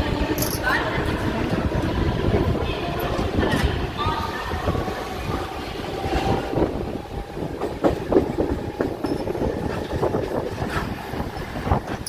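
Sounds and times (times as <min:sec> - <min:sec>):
train coach rattling: 0:00.0 - 0:12.0
wheels clattering over rails: 0:00.0 - 0:12.0.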